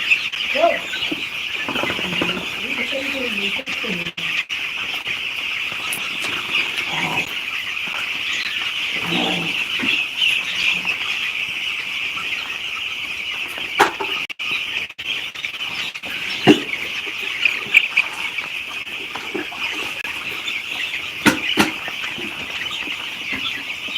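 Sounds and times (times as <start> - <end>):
chicks peeping: 0.0 - 23.9.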